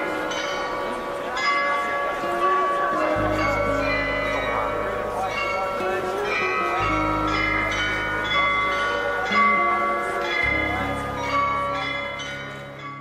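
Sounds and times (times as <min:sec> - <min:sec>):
bells ringing a melody: 0:00.0 - 0:13.0
sustained low chords: 0:02.2 - 0:13.0.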